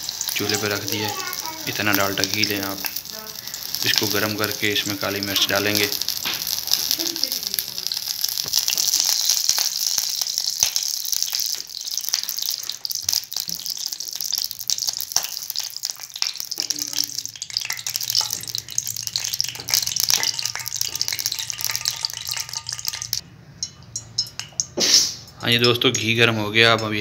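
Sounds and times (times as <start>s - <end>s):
ghee sizzling and crackling: 0.0s - 27.0s.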